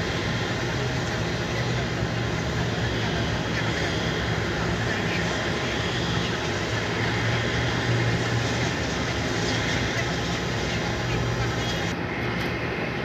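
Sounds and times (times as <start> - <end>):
jet aircraft rushing hiss: 0.0 - 13.0.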